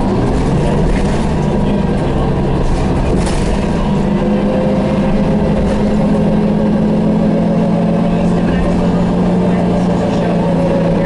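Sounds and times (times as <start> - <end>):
diesel bus engine running: 0.0 - 11.0.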